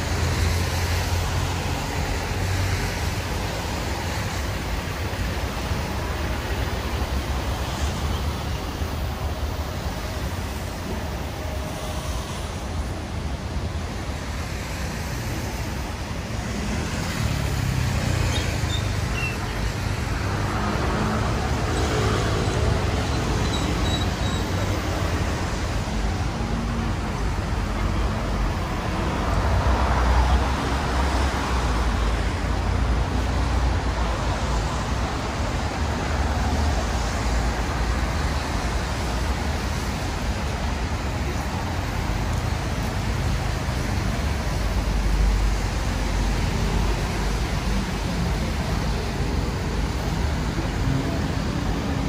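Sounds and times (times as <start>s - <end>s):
cars and buses passing: 0.0s - 52.0s
tyre noise on wet road: 0.0s - 52.0s.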